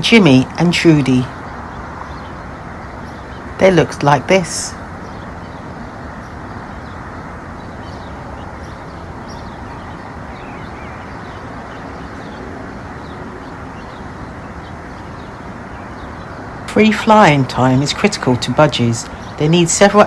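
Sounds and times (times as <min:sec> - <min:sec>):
distant traffic hum: 0:00.0 - 0:20.0
small birds chirping: 0:00.0 - 0:20.0.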